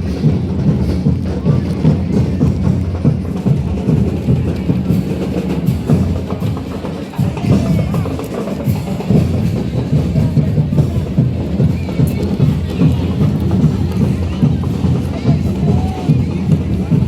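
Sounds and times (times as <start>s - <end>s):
bass drums: 0.0s - 17.0s
snare drums: 0.0s - 17.0s.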